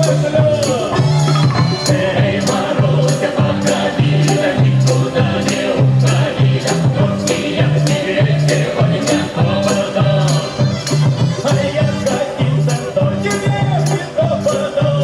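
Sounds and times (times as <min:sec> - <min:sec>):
jingling percussion strikes: 0:00.0 - 0:15.0
singing voices: 0:00.0 - 0:15.0
upbeat music with bass line: 0:00.0 - 0:15.0.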